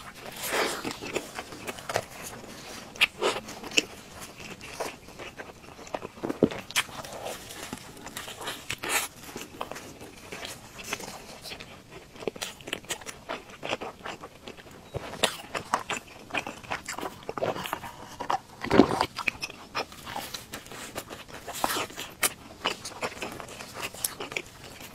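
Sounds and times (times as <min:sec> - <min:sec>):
crunchy chewing: 0:00.0 - 0:24.9.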